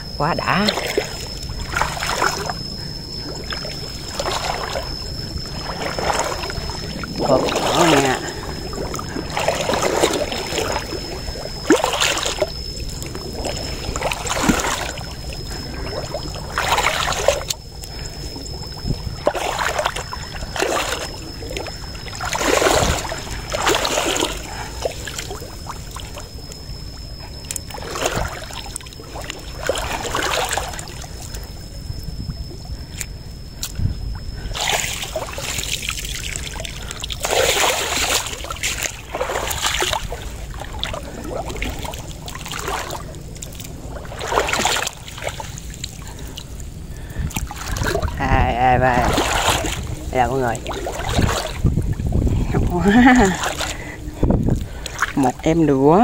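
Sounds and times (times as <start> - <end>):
legs wading through water: 0.0 - 56.0.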